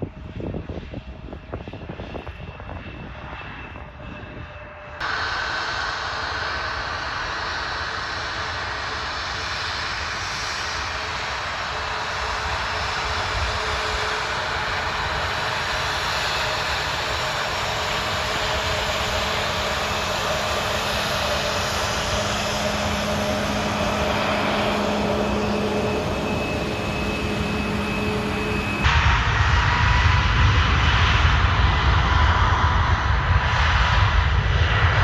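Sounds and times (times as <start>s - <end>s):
jet engines roaring and whining: 0.0s - 35.0s.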